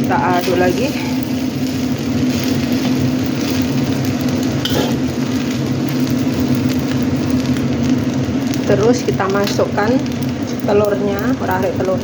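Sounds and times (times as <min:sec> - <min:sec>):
rice sizzling in a hot pan: 0:00.0 - 0:12.0
steady low hum: 0:00.0 - 0:12.0.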